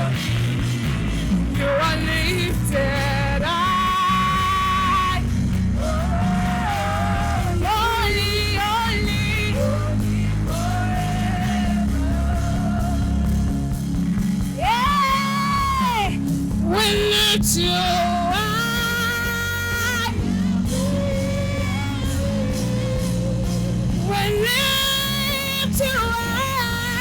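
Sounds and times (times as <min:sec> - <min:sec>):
band playing worship music: 0:00.0 - 0:27.0
singer holding wordless notes: 0:00.0 - 0:27.0.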